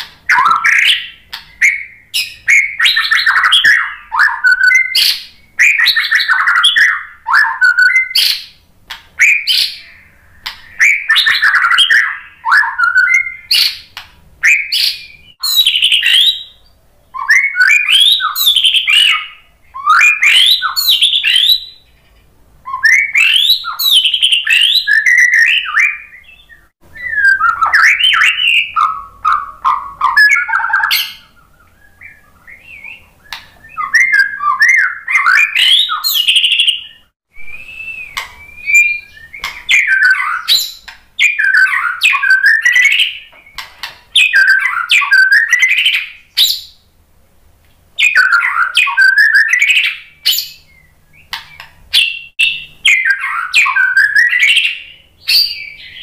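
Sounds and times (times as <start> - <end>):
bird singing whistles and warbles: 0.0 - 46.9, 48.0 - 56.0.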